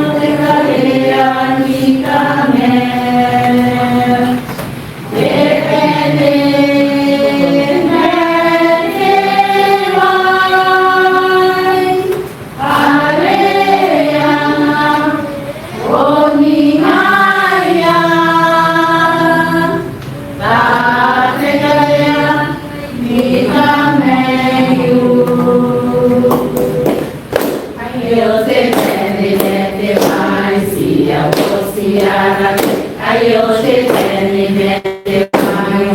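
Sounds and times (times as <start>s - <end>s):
choir singing a hymn: 0.0s - 35.9s.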